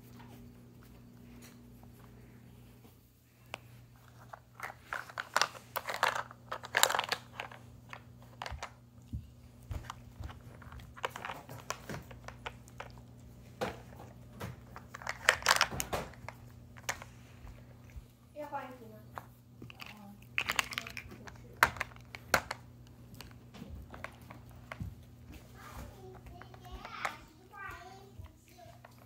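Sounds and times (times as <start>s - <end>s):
dog crunching treats: 3.5s - 18.0s, 19.2s - 29.0s.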